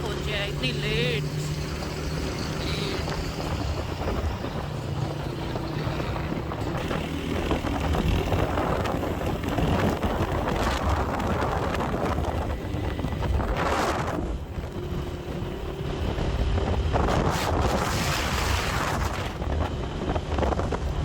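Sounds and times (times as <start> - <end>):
motorcycle engine rumble: 0.0 - 17.7
wind rushing over microphone: 0.0 - 21.0.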